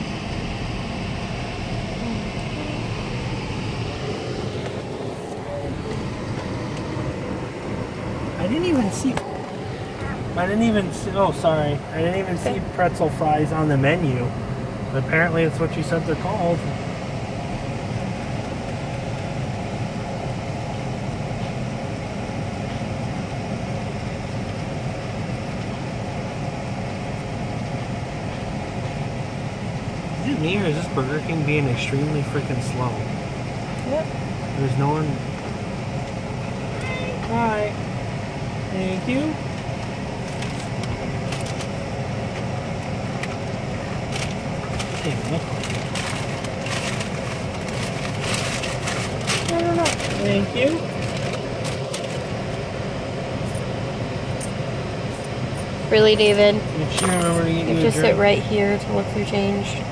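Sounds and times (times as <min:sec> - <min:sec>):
air-conditioning fan blowing: 0:00.0 - 0:59.9
car idling rumble and hiss: 0:00.0 - 0:59.9.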